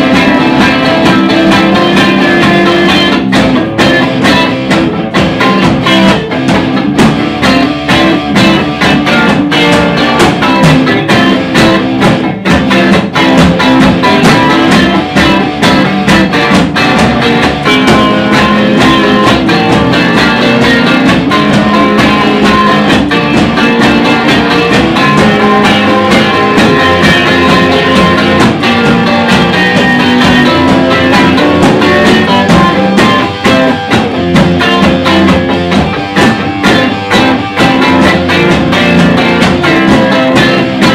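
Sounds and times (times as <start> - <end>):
blues band instrumental: 0.0 - 40.9
drum hits: 0.0 - 40.9.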